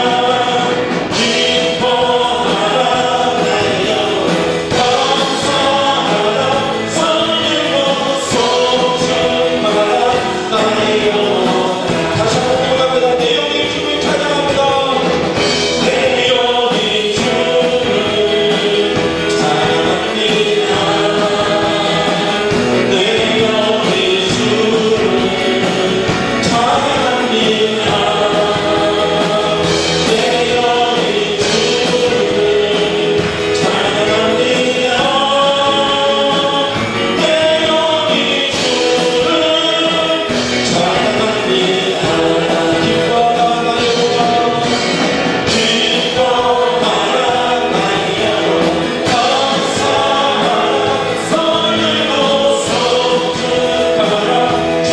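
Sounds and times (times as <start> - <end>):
congregation singing worship song: 0.0 - 54.9
instrumental accompaniment: 0.0 - 54.9.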